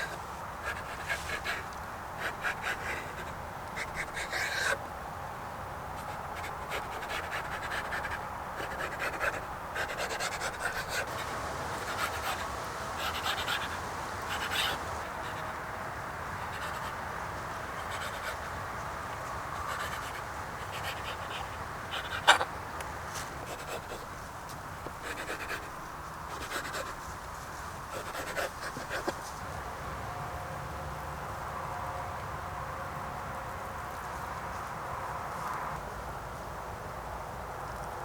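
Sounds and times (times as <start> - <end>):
steady outdoor hiss: 0.0 - 38.0.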